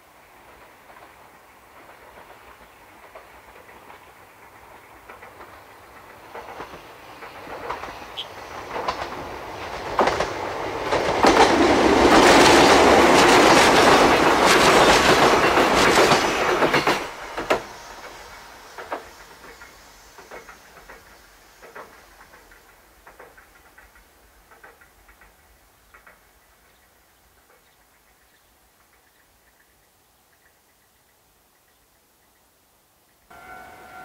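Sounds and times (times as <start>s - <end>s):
train wheels clicking over rail joints: 0.3s - 27.9s.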